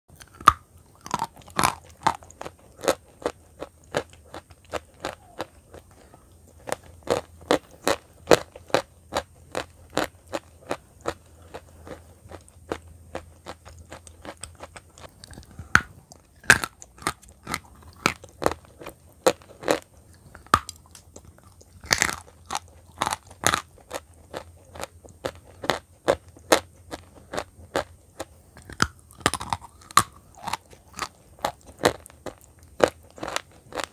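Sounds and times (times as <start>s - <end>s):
chalk crunching while chewed: 0.1s - 33.9s
faint low hum: 0.1s - 33.9s.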